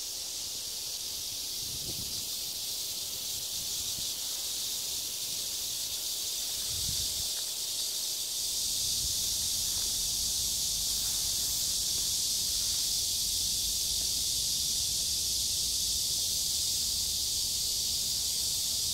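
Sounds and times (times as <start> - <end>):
high-pitched insect chorus: 0.0 - 18.9.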